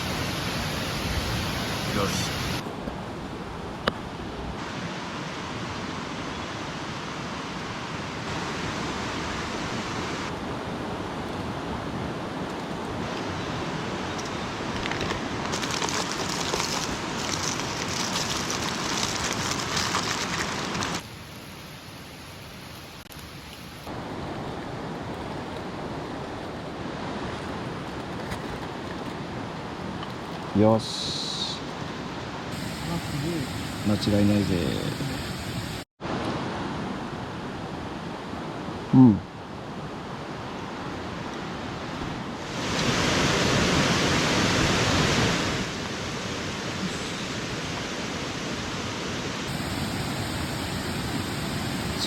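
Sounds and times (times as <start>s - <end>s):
steady rushing outdoor noise: 0.0s - 52.0s.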